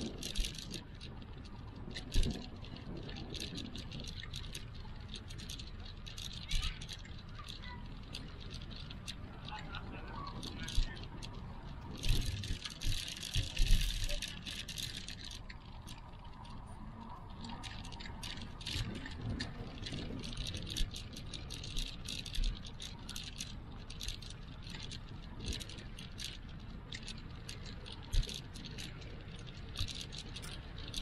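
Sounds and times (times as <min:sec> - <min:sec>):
rattling clicks: 0:00.0 - 0:31.0.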